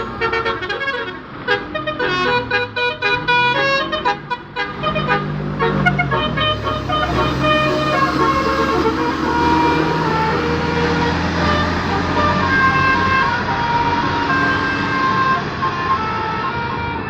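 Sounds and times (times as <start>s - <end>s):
musical bus horn tune: 0.0s - 17.0s.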